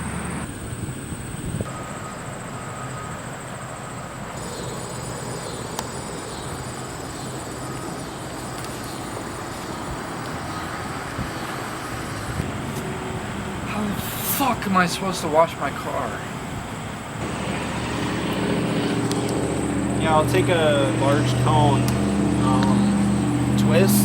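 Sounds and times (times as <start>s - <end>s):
vehicle noise: 0.0s - 24.0s.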